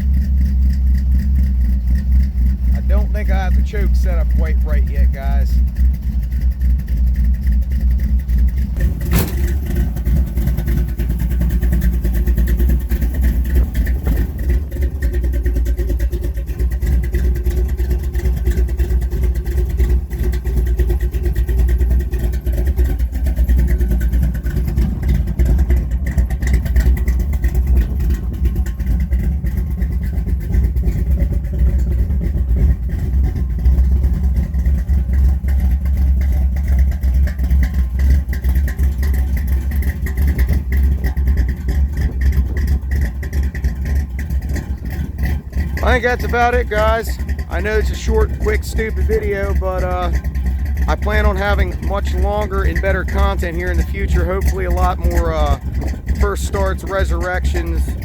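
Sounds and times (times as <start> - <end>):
choppy engine idle: 0.0 - 58.0.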